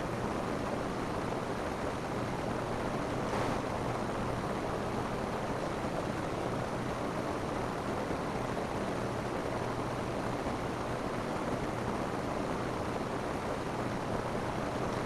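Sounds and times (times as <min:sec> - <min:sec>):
rain on a roof: 0:00.0 - 0:15.0.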